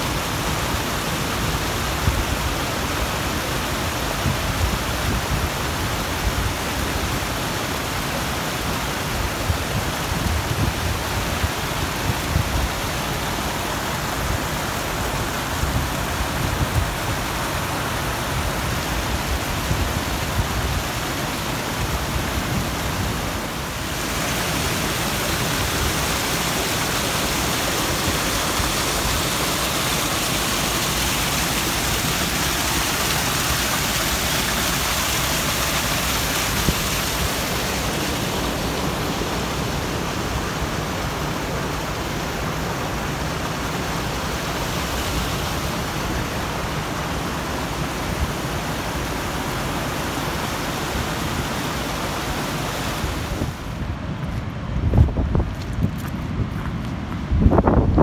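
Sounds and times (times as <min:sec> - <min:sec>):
surf breaking on a cobble beach: 0:00.0 - 0:54.8.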